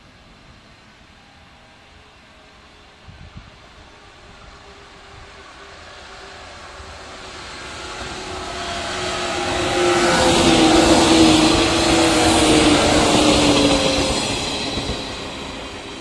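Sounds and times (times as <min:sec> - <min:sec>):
electric train passing: 0:00.0 - 0:16.0
train hum: 0:00.0 - 0:16.0.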